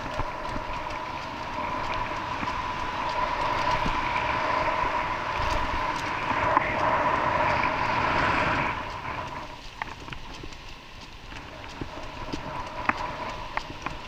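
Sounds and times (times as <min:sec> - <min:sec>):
rushing noise: 0:00.0 - 0:14.0.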